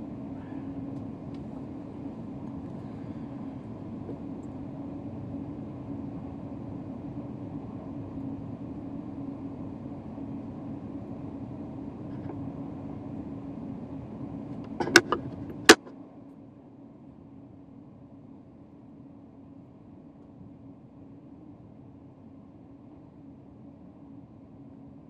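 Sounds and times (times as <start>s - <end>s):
train rumble and hum inside carriage: 0.0s - 25.0s.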